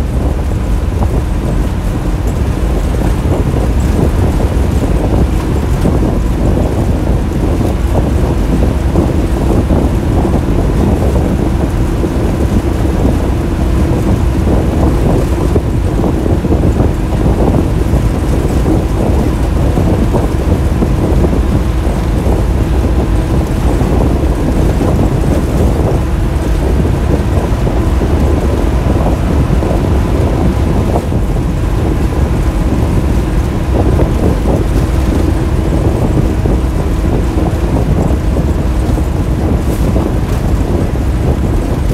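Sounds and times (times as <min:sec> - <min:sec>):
bus engine rumble: 0:00.0 - 0:41.9
road noise: 0:00.0 - 0:41.9.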